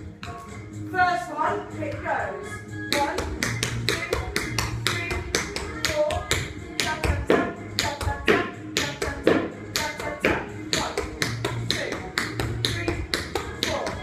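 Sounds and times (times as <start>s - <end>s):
background music with bass: 0.0s - 14.0s.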